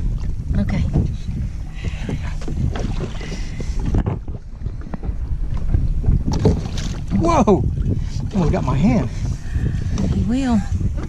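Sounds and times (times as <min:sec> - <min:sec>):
water splashing against boat: 0:00.0 - 0:11.0
wind buffeting microphone: 0:00.0 - 0:11.0.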